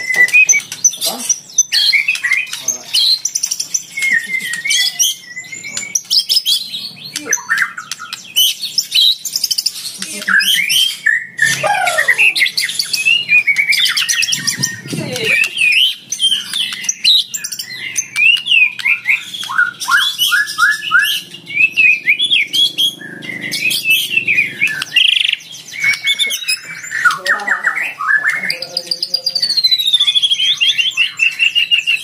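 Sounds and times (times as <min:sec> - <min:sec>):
bird singing whistled song: 0:00.0 - 0:32.0.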